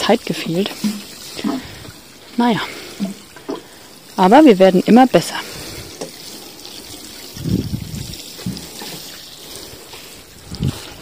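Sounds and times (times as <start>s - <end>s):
water spraying onto soil: 0.0s - 11.0s.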